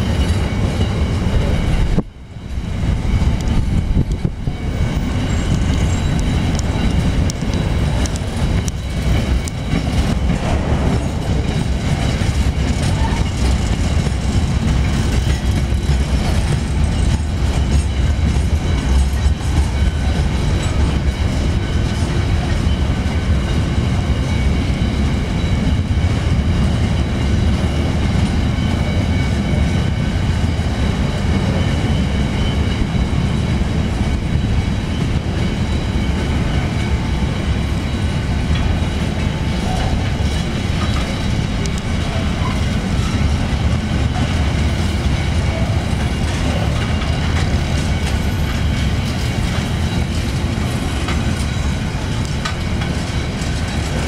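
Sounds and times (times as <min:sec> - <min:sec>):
freight train rumbling past: 0:00.0 - 0:54.0
wheels clicking over rail joints: 0:00.0 - 0:54.0.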